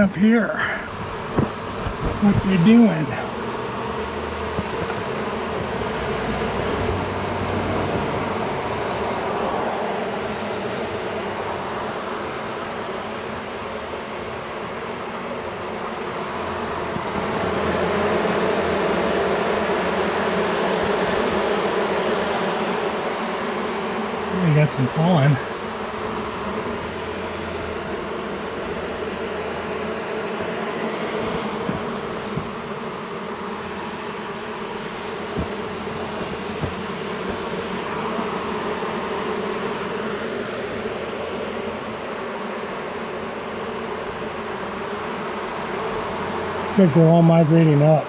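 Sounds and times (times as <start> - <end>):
honey bees buzzing: 0.0 - 48.0.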